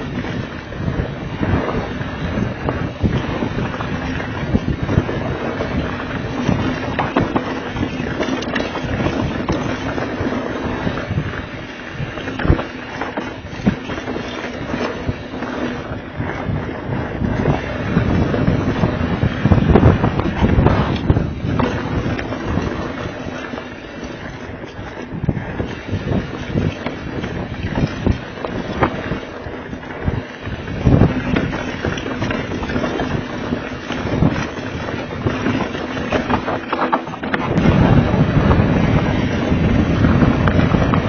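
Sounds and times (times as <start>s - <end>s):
bike rattling knocks: 0.0s - 41.0s
wind rushing over microphone: 0.0s - 41.0s
tyres crunching over dirt and rock: 2.2s - 41.0s.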